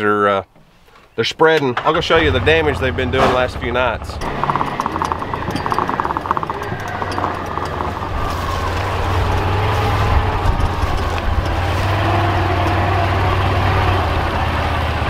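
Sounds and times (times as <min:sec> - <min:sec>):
vehicle engine running: 0:02.0 - 0:15.0.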